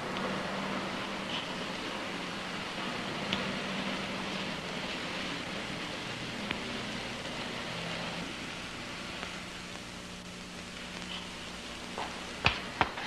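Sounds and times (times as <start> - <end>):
faint low hum: 0.0 - 13.0
film soundtrack hiss: 0.0 - 13.0.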